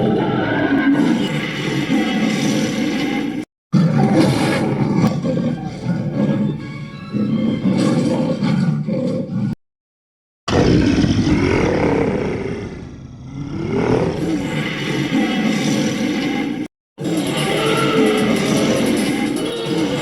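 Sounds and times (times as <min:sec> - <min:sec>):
dragon roar: 0:00.0 - 0:09.6, 0:10.5 - 0:20.0.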